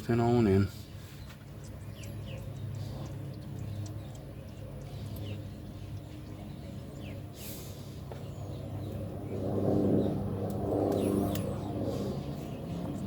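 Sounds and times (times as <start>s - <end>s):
birds chirping: 0.0s - 13.0s
low hum: 1.4s - 13.0s.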